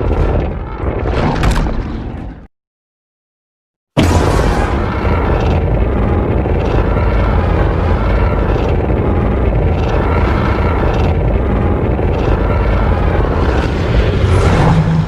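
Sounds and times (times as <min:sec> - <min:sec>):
deep monster rumbling: 0:00.0 - 0:02.5, 0:04.0 - 0:15.0.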